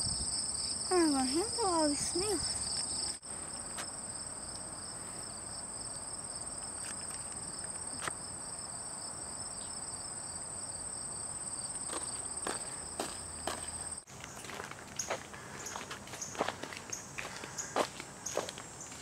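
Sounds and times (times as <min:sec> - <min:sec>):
insects trilling in grass: 0:00.0 - 0:19.0.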